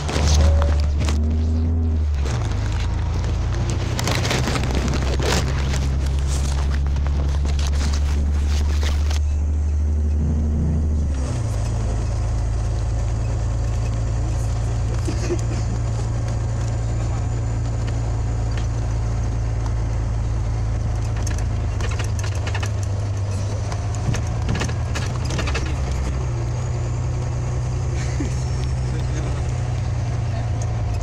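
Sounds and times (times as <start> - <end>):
clicks and rattles: 0.0 - 9.4, 11.5 - 27.2
bus engine drone: 0.0 - 31.0.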